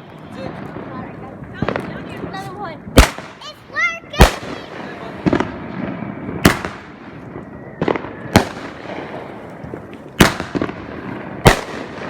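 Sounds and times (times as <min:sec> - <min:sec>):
fireworks bangs: 0:00.0 - 0:12.0
fireworks crackles: 0:00.0 - 0:12.0.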